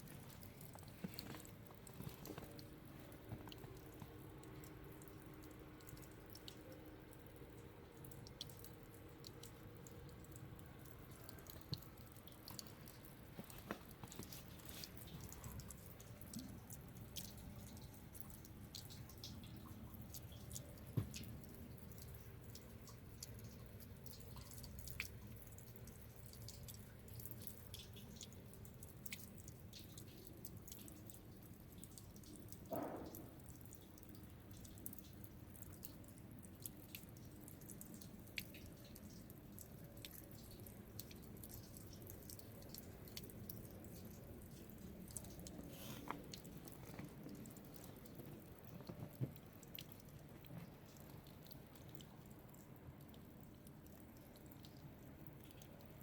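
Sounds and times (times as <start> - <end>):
low steady hum: 0.0 - 56.0
soft ticks and crackles: 0.0 - 56.0.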